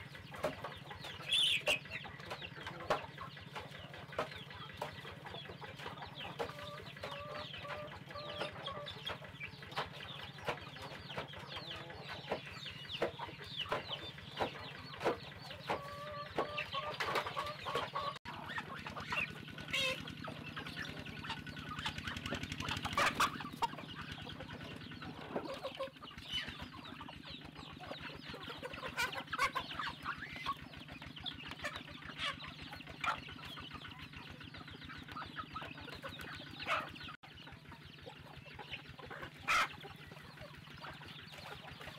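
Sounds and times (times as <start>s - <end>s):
chickens clucking: 0.0s - 41.9s
chicks peeping: 0.0s - 41.9s.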